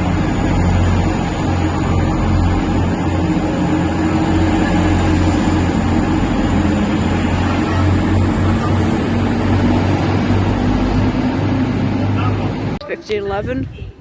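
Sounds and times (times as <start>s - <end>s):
train engine drone: 0.0s - 13.3s.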